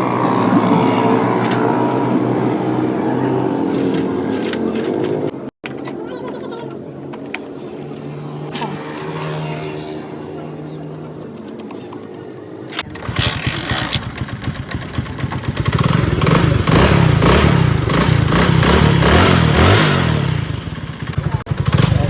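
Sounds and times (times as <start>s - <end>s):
motorcycle engine revving: 0.0s - 5.4s, 8.2s - 22.0s.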